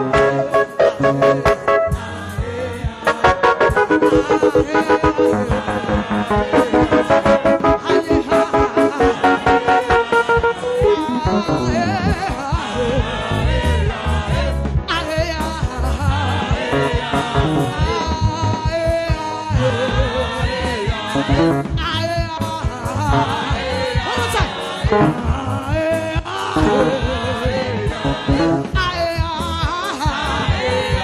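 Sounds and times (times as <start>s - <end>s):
band with bass and drums: 0.0s - 31.0s
gospel choir singing: 0.0s - 31.0s.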